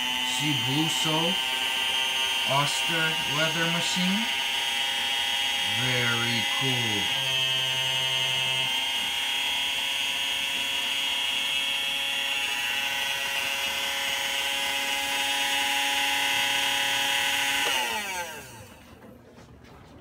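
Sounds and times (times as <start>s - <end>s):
small electric motor whining: 0.0s - 18.9s.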